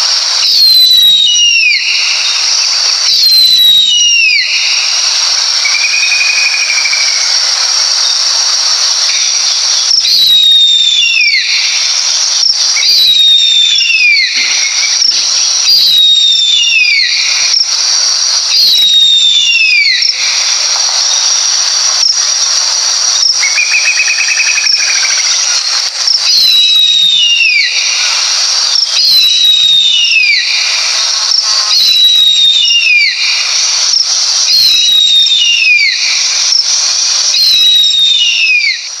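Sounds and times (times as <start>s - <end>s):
eagle whistled screams: 0.0s - 22.5s, 23.1s - 39.0s
steady high hiss: 0.0s - 39.0s.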